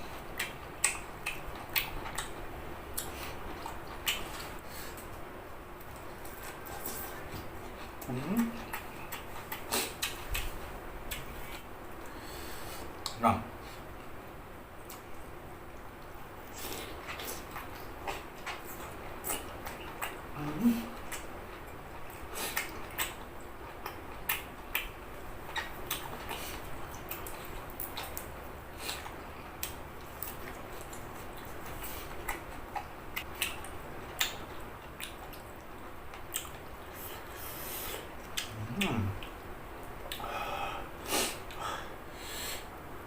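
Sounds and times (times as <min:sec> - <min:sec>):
faint background noise: 0:00.0 - 0:43.0.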